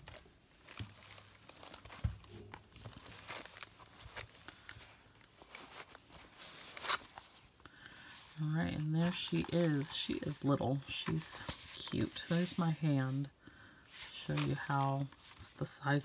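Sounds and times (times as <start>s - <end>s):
fabric bag rustling: 0.0s - 13.2s.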